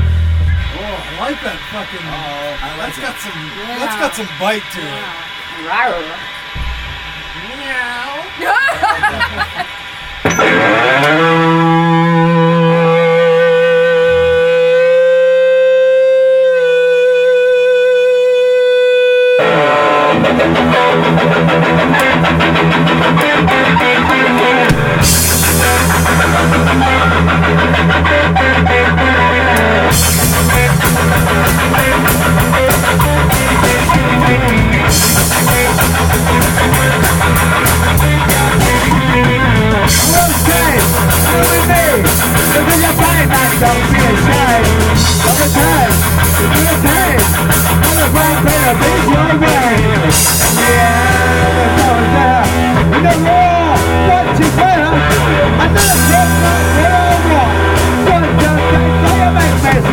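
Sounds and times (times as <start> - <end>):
distorted electric guitar: 0.0 - 59.9
rock band playing: 0.0 - 59.9.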